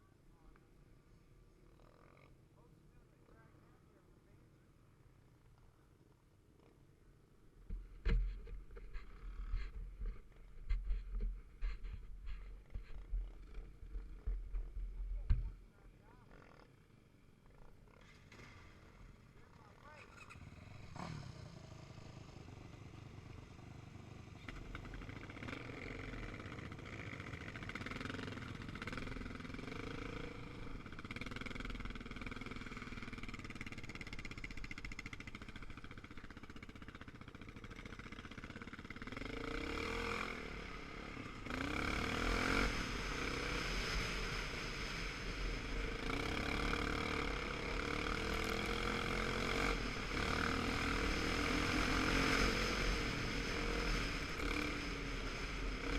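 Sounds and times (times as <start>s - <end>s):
motorcycle engine revving: 7.7s - 55.9s.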